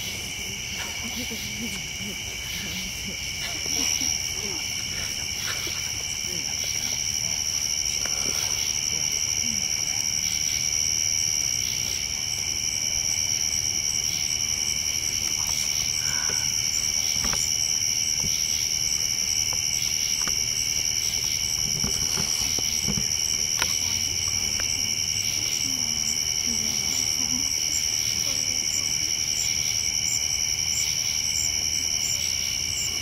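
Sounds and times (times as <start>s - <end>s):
campfire crackling: 0.0s - 28.0s
crickets and insects trilling: 0.0s - 33.0s.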